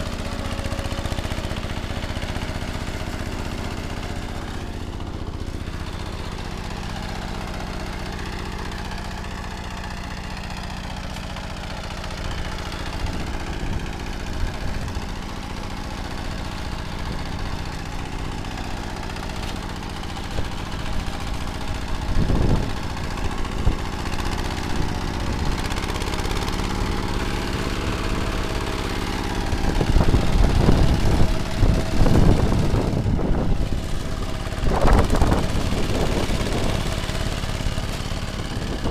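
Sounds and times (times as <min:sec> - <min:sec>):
rotary tiller working soil: 0:00.0 - 0:38.9
tractor engine running: 0:00.0 - 0:38.9.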